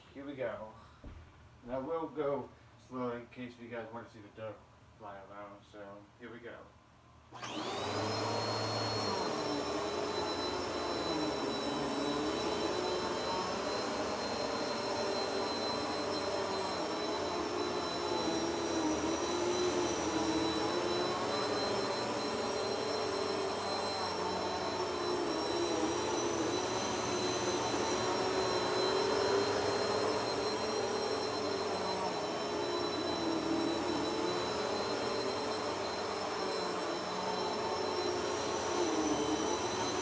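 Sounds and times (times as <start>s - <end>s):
vacuum cleaner running: 7.3s - 40.0s.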